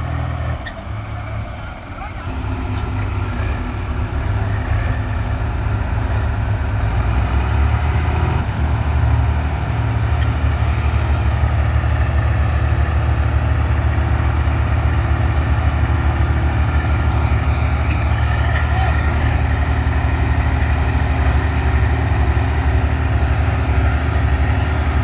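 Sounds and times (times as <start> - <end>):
tractor diesel engines running: 0.0 - 25.0.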